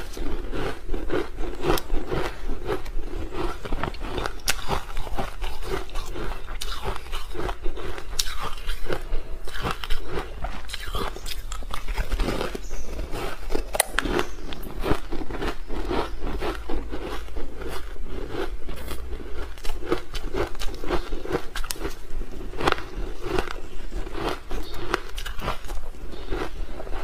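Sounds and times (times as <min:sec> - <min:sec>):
ice crunching while chewing: 0:00.0 - 0:27.0.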